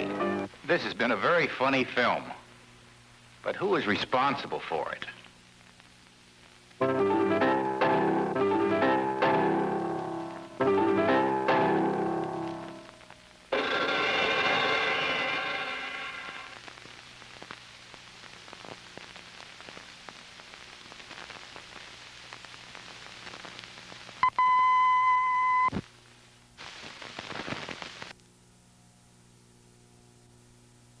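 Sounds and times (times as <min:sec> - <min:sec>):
film soundtrack hiss and crackle: 0:00.0 - 0:31.0.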